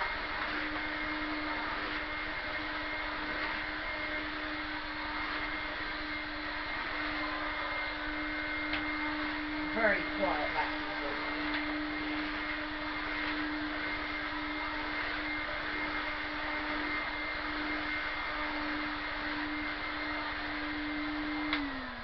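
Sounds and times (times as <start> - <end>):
vacuum cleaner motor humming: 0.0 - 22.0.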